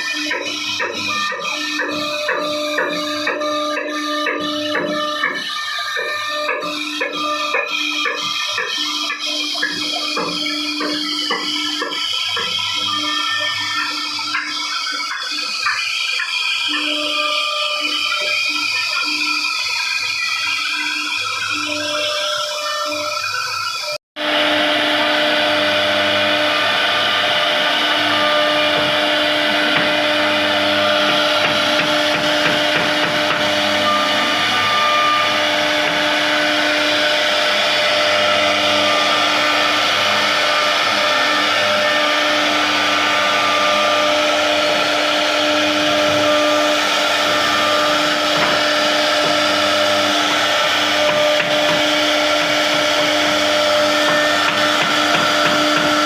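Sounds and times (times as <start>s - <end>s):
router spindle high whine: 0.0s - 56.0s.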